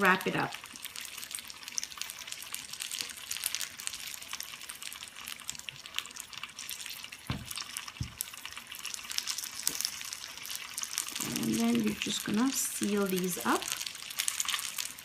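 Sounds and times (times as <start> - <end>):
deep-frying sizzle and crackling: 0.0 - 15.0.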